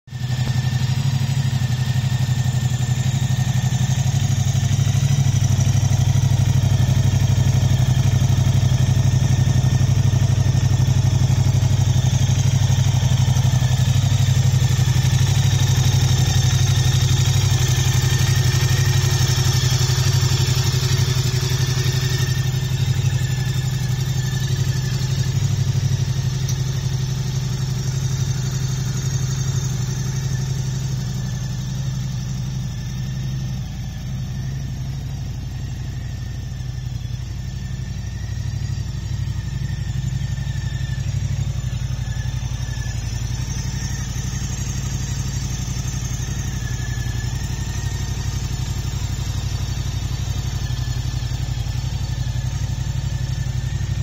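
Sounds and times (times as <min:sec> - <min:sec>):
motorcycle engine idling: 0:00.1 - 0:54.0.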